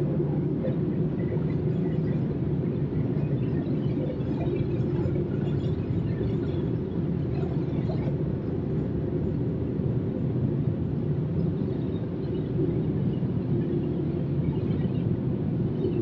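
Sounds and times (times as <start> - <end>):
machinery hum and rumble: 0.0 - 16.0.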